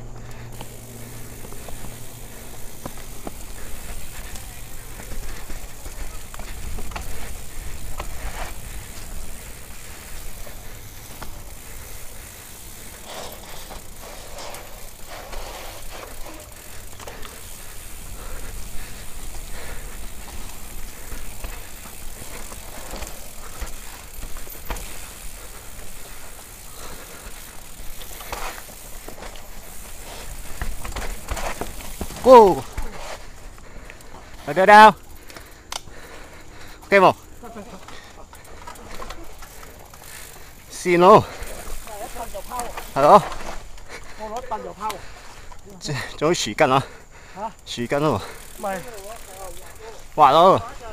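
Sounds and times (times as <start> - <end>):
bike knocking and rattling: 0.0 - 50.9
bike tyres rolling over dirt: 0.0 - 50.9.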